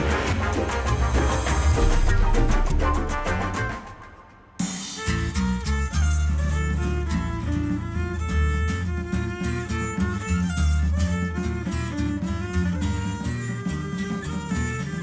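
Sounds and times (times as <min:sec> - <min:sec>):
deep bass line: 0:00.0 - 0:04.3, 0:05.0 - 0:12.9
violin melody: 0:00.0 - 0:04.4, 0:05.3 - 0:15.0.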